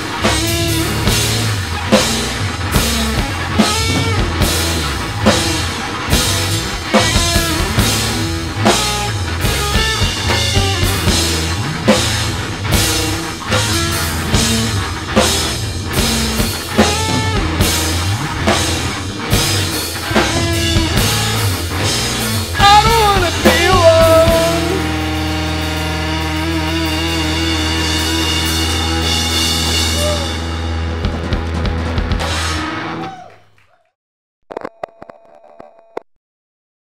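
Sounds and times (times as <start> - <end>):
drum kit beat: 0.0 - 32.8
electric guitar bent notes: 0.0 - 33.1
rock band playing: 0.0 - 33.2.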